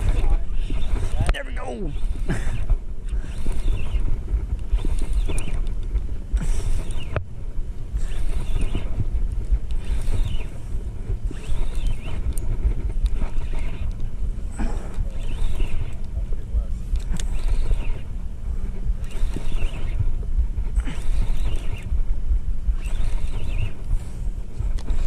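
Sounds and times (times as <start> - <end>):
fishing reel whirring: 0.0 - 25.0
wind buffeting microphone: 0.0 - 25.0.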